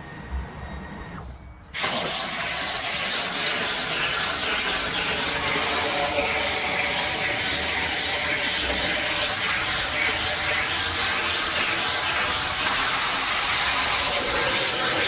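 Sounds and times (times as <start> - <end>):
loud steady hiss: 1.8 - 15.0.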